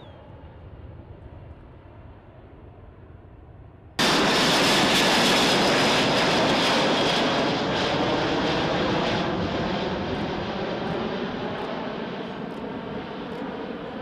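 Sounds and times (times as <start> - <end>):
jet aircraft passing overhead: 0.0 - 14.0.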